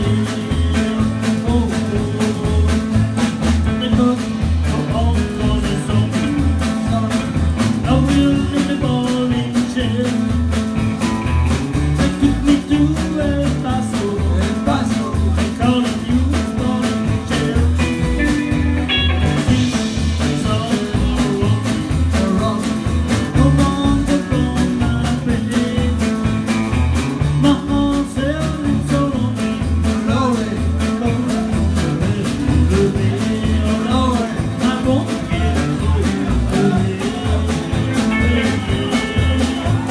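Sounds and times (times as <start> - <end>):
man singing: 0.0 - 39.9
rock and roll band playing: 0.0 - 39.9
upright bass pulsing: 0.0 - 39.9.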